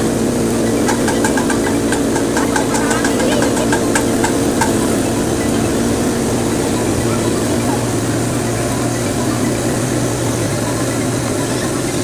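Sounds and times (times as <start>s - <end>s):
cotton candy machine droning: 0.0s - 12.0s.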